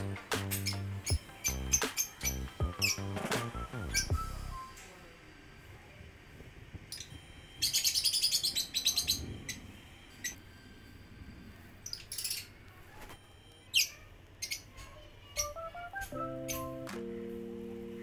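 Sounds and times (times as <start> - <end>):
small birds chirping: 0.0 - 4.7, 6.8 - 10.4, 11.6 - 18.0.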